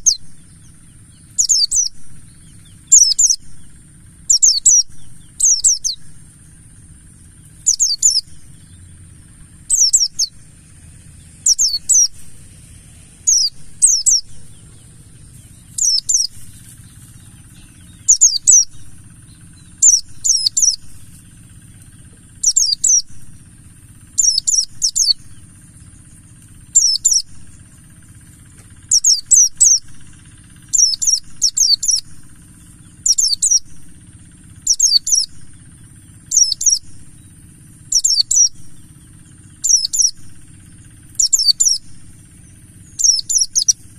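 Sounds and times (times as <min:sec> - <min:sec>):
bird twittering song: 0:00.0 - 0:43.9
low hum: 0:00.0 - 0:43.9.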